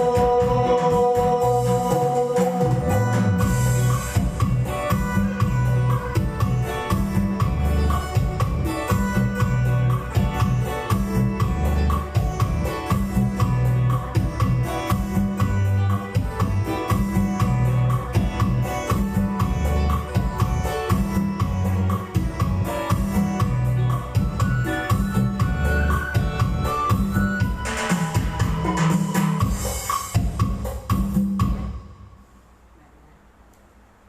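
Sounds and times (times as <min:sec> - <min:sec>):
repeating bass line: 0:00.0 - 0:29.6
guitar: 0:00.0 - 0:31.8
steady drum beat: 0:00.0 - 0:32.0.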